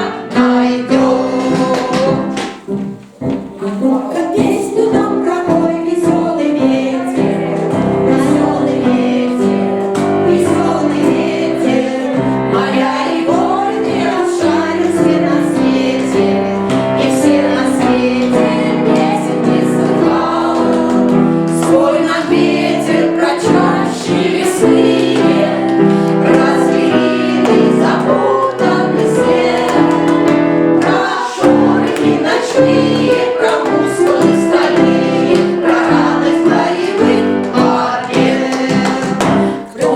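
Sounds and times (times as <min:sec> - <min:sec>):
choir singing in unison: 0:00.0 - 0:02.6, 0:03.6 - 0:39.9
piano accompaniment: 0:00.0 - 0:39.9.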